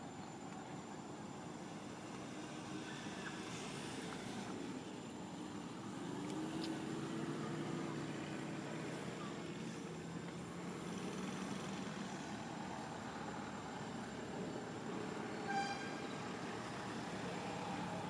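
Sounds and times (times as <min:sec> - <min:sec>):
outdoor noise: 0:00.0 - 0:18.0
vehicle engine humming: 0:00.0 - 0:18.0.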